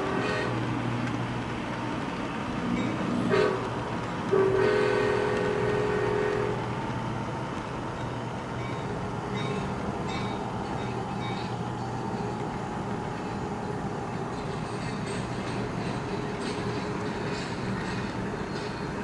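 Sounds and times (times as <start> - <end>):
model train rolling rumble: 0.0 - 19.0
wheels clicking over rail joints: 0.0 - 19.0.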